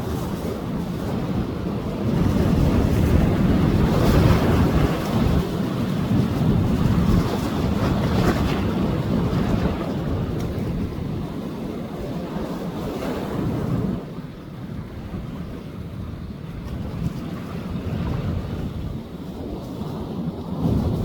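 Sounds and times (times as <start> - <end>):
sea waves breaking on beach: 0.0 - 21.0
wind rumbling on microphone: 0.0 - 21.0.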